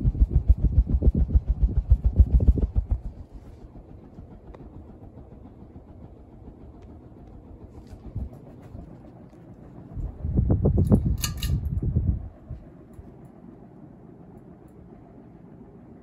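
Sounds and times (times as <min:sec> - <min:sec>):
fan blades thumping air: 0:00.0 - 0:13.6
ceiling fan humming: 0:00.0 - 0:16.0.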